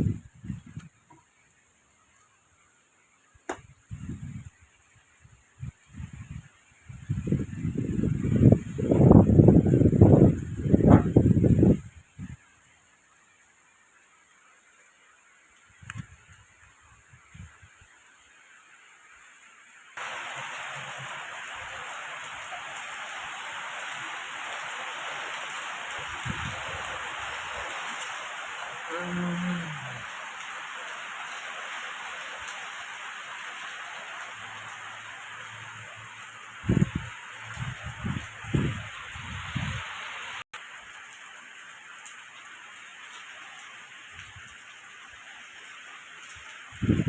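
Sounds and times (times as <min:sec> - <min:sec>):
heavy rain: 0:00.0 - 0:47.0.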